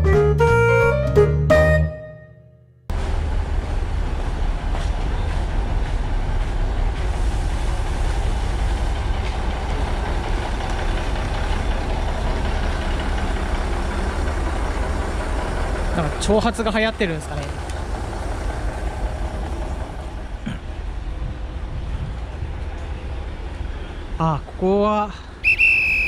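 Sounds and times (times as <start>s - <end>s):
diesel railcar engine idling: 2.9s - 26.0s.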